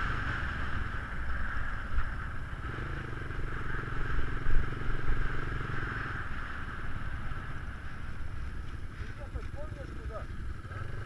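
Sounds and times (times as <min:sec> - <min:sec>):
motorcycle engine low rumble: 0:00.0 - 0:11.0.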